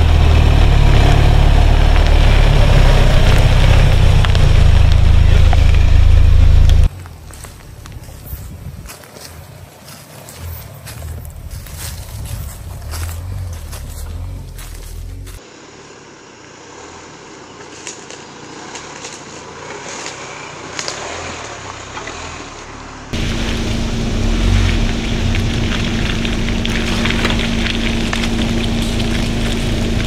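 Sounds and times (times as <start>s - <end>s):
tyres crunching on dirt: 0.0s - 15.5s, 17.5s - 30.0s
suv engine drone: 0.0s - 30.0s.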